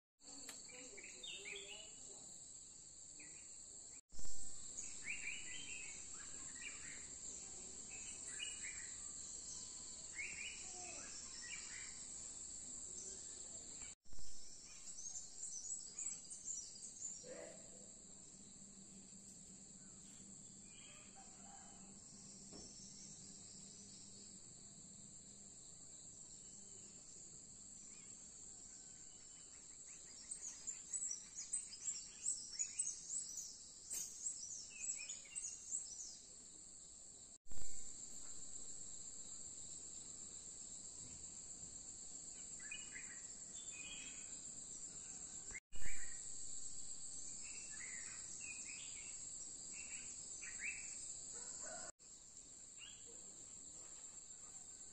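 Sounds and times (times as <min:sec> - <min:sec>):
insect chorus: 0:00.3 - 0:54.9.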